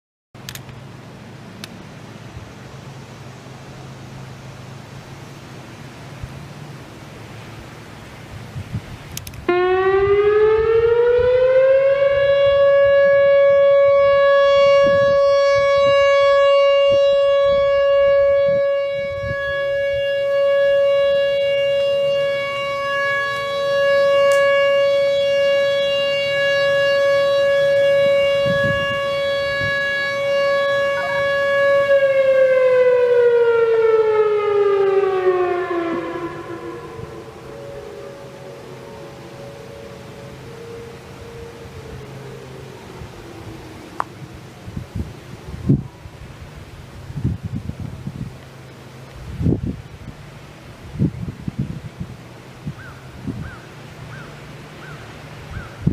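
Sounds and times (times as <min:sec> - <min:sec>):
warning siren: 0:09.4 - 0:55.9.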